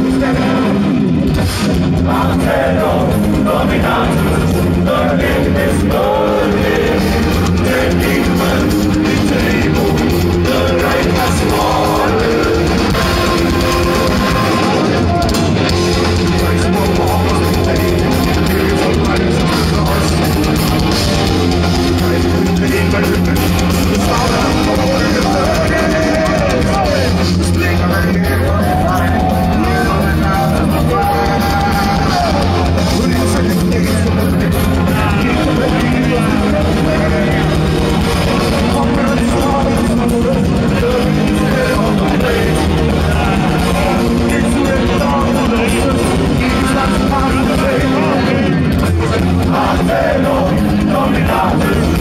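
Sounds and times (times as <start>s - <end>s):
heavy metal band playing live: 0.0s - 52.0s
loud guitars: 0.0s - 52.0s
person singing: 1.7s - 52.0s.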